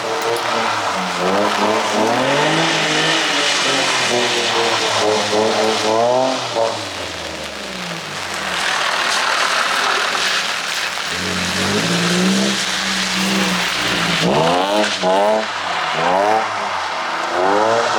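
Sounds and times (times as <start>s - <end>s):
tyres hissing with spray: 0.0s - 17.6s
car engine revving: 0.0s - 17.9s.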